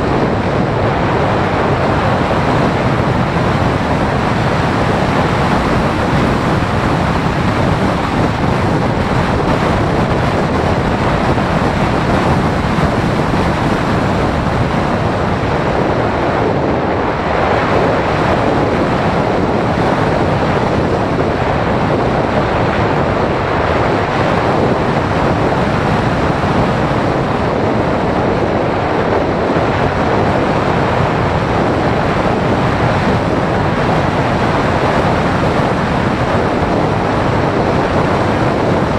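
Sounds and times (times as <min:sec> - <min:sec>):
wind noise over microphone: 0:00.0 - 0:38.9.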